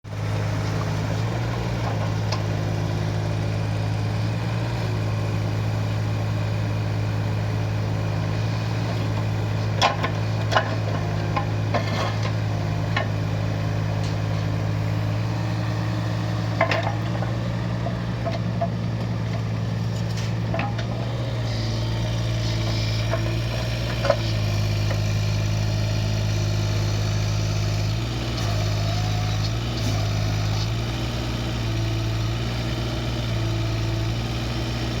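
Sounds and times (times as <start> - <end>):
excavator diesel engine running: 0.1 - 35.0.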